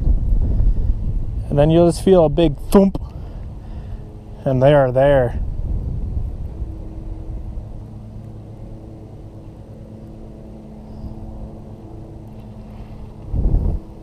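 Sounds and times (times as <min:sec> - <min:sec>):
loud low rumble: 0:00.0 - 0:14.0
low engine hum: 0:00.0 - 0:14.0.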